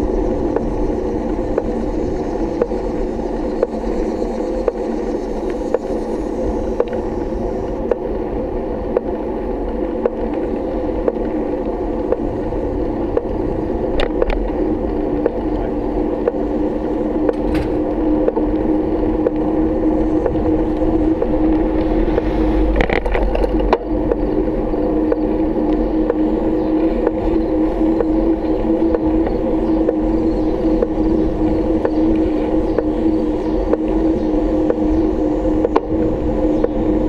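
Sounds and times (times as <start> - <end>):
bike rattling: 0.0 - 36.9
bike clicks over bumps: 0.0 - 37.0
bike rolling on paved road: 0.0 - 37.0.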